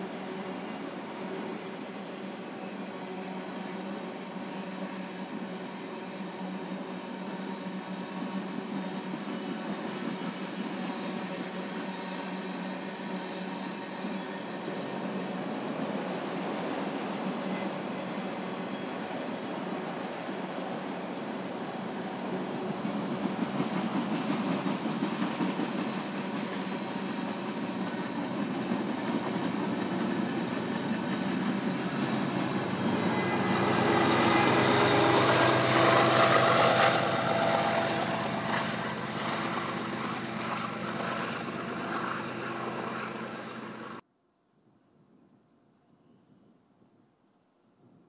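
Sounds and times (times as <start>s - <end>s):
freight train rumbling past: 0.0s - 44.0s
whine of steady tones: 0.0s - 44.0s.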